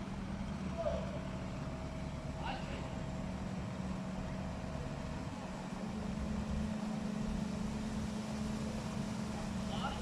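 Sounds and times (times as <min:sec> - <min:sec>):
engine running with low hum: 0:00.0 - 0:10.0.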